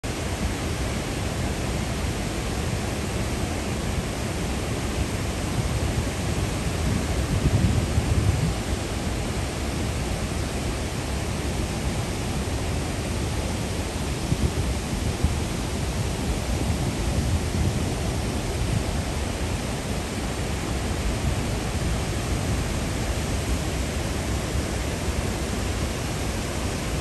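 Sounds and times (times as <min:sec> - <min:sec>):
river water rushing over dam: 0:00.1 - 0:27.0.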